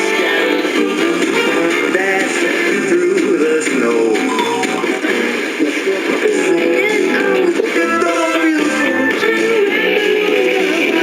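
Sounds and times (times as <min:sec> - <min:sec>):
pop song on radio speaker: 0:00.0 - 0:11.0.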